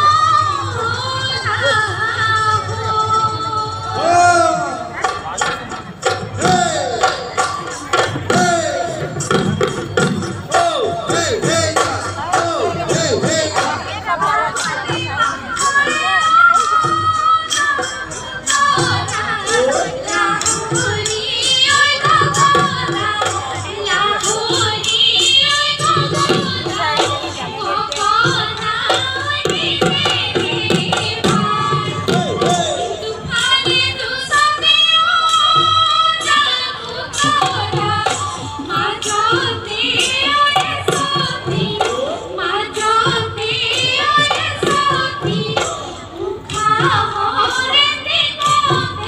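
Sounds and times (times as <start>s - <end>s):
voices singing: 0.0s - 49.0s
steady drumming: 2.3s - 49.0s.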